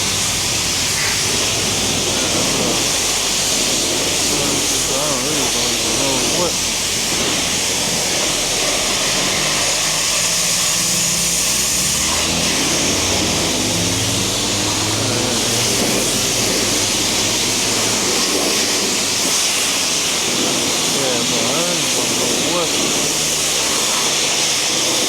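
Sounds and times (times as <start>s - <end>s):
water spraying hiss: 0.0s - 25.0s.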